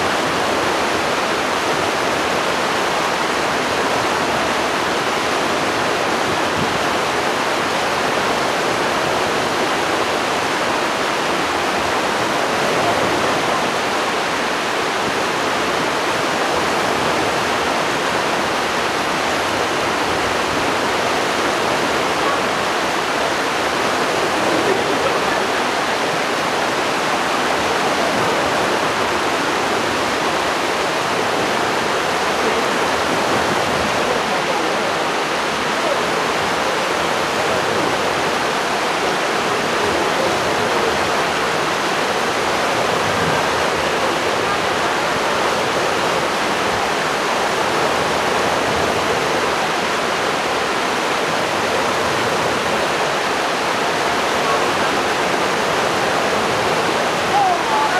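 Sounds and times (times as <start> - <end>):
stream water rushing and babbling: 0.0 - 57.9.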